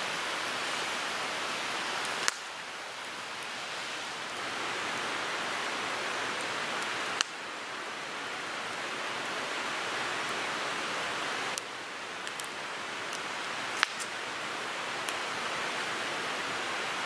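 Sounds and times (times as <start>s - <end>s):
wood fire hissing and crackling: 0.0s - 17.0s.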